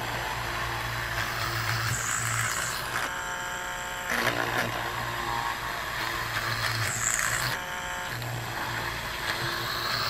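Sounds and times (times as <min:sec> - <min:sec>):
small drill buzzing whine: 0:00.0 - 0:10.0.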